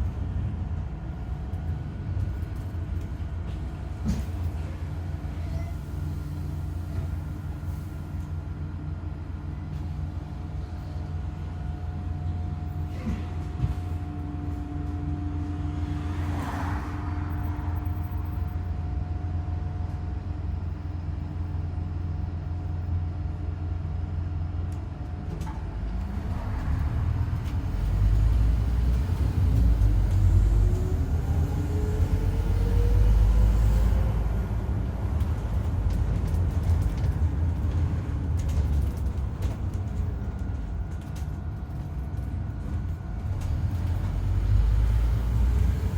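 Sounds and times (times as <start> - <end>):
bus engine: 0.0 - 45.9.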